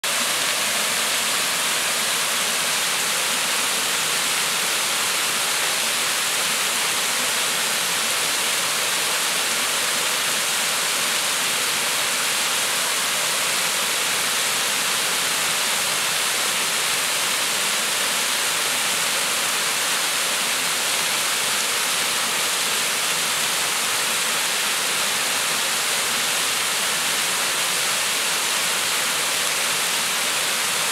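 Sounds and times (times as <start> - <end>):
small waterfall splashing: 0.0 - 30.9.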